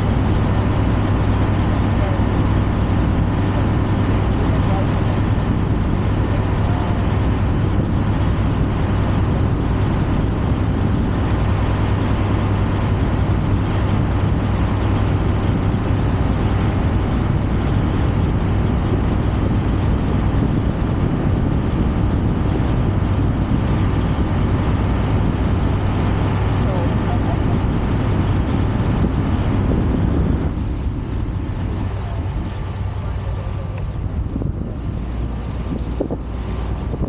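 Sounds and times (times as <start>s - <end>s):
motor boat engine drone: 0.0s - 37.0s
water rushing: 0.0s - 37.0s
wind: 0.0s - 37.0s.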